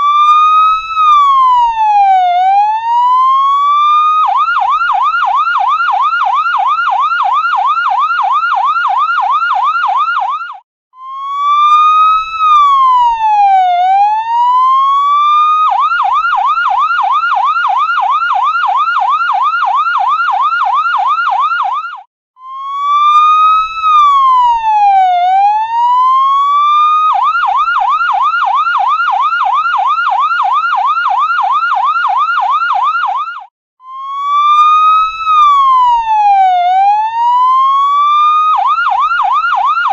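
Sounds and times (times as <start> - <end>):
ambulance siren yelp and wail: 0.0 - 39.9.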